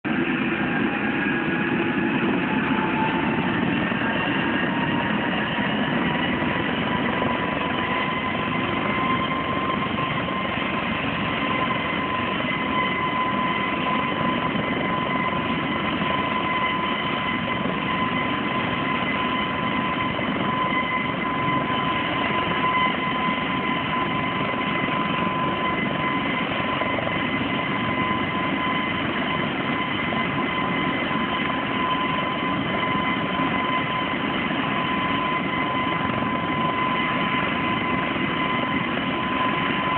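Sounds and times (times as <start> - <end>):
helicopter drone with turbine whine: 0.0 - 39.9.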